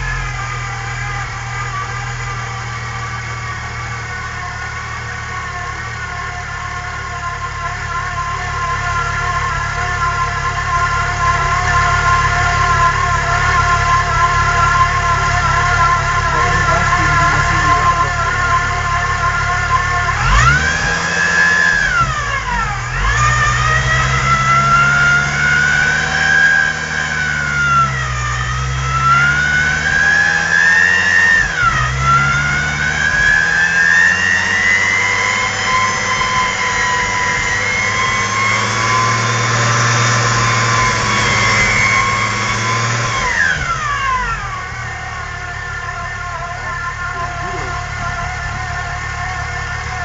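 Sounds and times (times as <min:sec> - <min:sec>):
car engine revving: 0:00.0 - 0:50.0
supercharger whining: 0:00.0 - 0:50.0.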